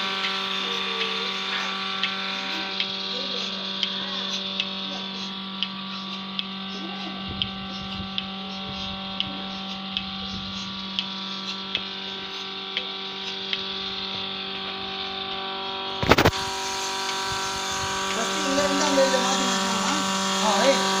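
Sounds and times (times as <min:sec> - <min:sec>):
milking machine motor humming: 0:00.0 - 0:21.0.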